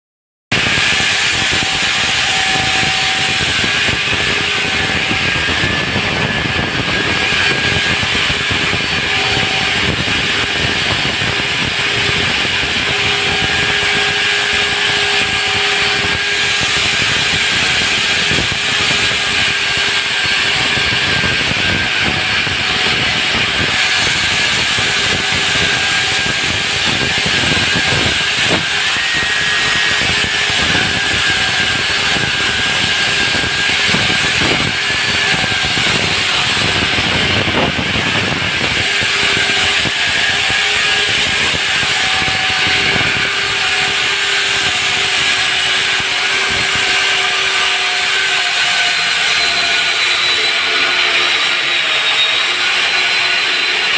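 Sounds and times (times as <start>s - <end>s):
core drill grinding concrete: 0.5s - 53.9s.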